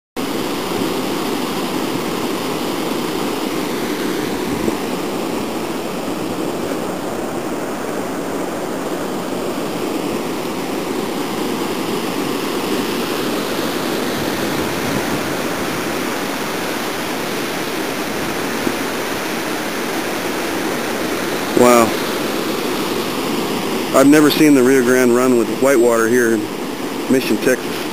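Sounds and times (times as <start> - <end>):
water rushing through rapids: 0.2 - 27.9.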